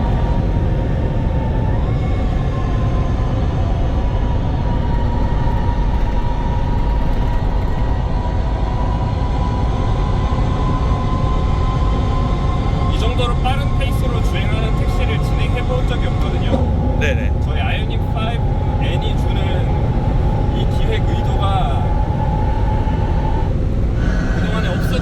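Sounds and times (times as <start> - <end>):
road and tyre rumble: 0.0 - 25.0.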